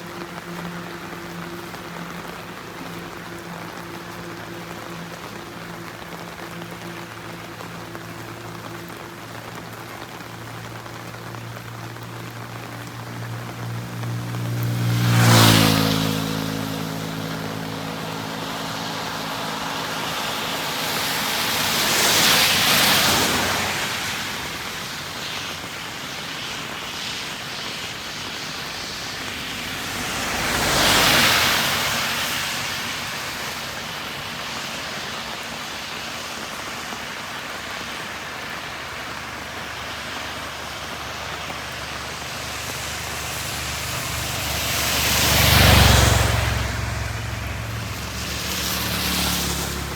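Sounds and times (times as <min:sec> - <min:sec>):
heavy rain on a road: 0:00.0 - 0:49.9
vehicle passing on wet road: 0:00.0 - 0:49.9.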